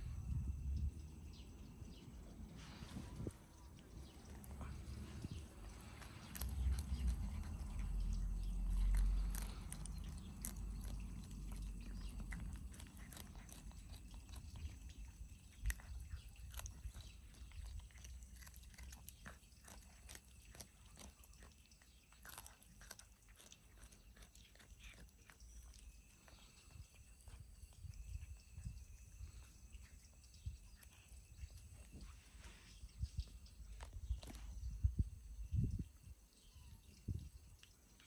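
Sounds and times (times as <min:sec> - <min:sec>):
kittens chewing crunchily: 0:00.0 - 0:38.0.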